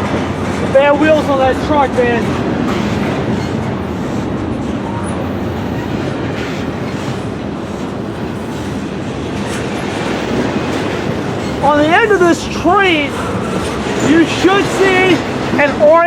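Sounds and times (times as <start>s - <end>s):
freight train rolling past: 0.0s - 16.0s
steel wheels rumbling on rails: 0.0s - 16.0s.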